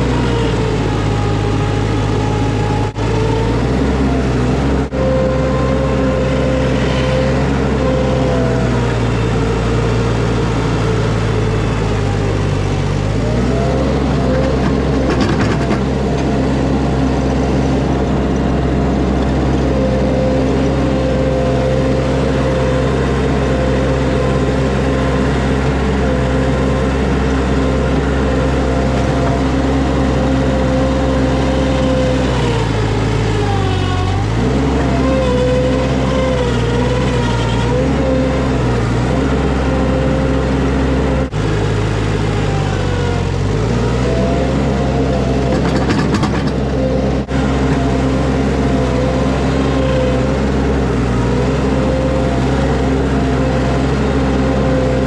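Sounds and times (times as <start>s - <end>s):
diesel engine running at high revs: 0.0s - 55.0s.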